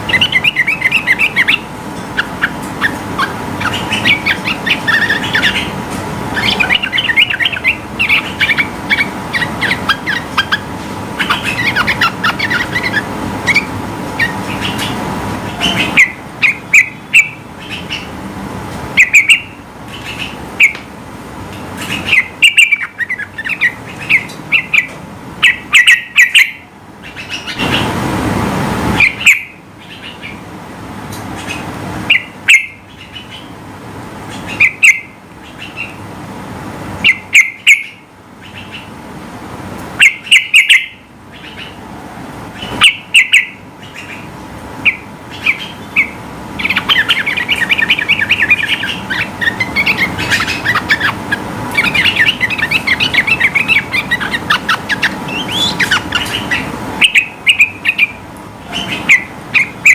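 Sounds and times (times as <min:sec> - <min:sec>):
bird chirping: 0:00.0 - 0:18.2, 0:19.0 - 0:20.8, 0:21.5 - 0:27.9, 0:29.0 - 0:30.4, 0:31.1 - 0:33.6, 0:34.3 - 0:36.0, 0:37.0 - 0:39.0, 0:40.0 - 0:41.8, 0:42.6 - 0:59.9.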